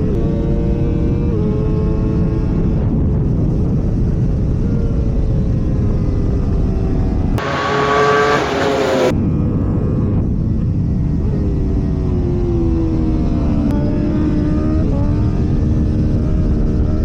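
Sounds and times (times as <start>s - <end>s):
motorcycle engine at high revs: 0.0s - 9.1s, 11.0s - 17.0s
engine with falling pitch: 0.0s - 17.0s
wind rush: 1.4s - 17.0s.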